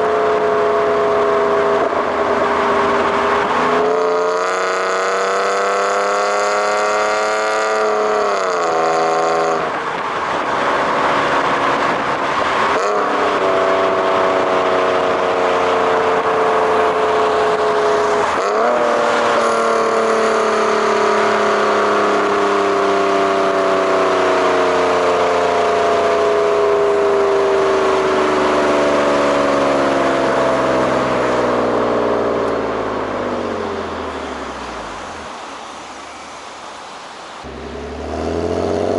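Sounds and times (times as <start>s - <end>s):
car engine and exhaust revving: 0.0s - 38.9s.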